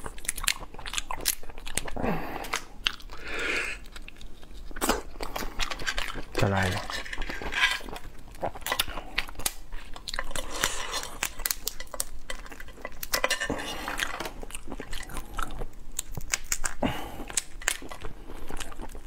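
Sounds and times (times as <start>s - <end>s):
shells cracking and snapping: 0.0s - 3.1s, 4.0s - 19.0s.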